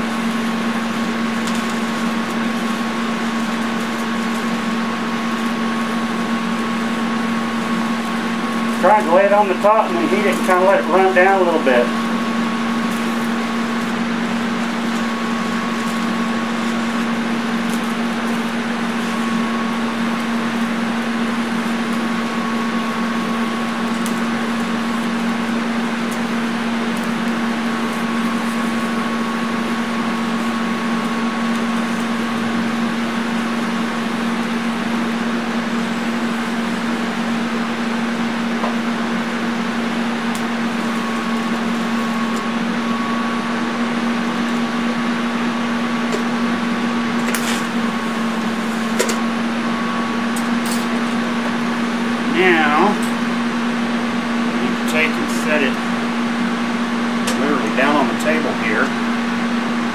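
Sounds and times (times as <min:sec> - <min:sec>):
welding arc buzzing with hiss: 0:00.0 - 0:59.9.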